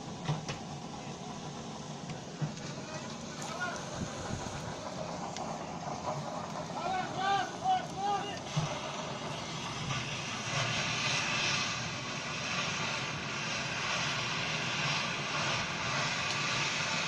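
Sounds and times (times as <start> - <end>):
gas jetting hiss: 2.4 - 17.0.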